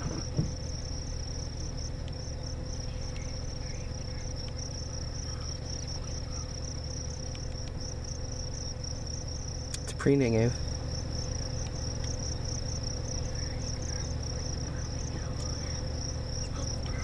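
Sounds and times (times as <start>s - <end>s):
insects trilling: 0.0s - 17.0s
low steady hum: 0.0s - 17.0s.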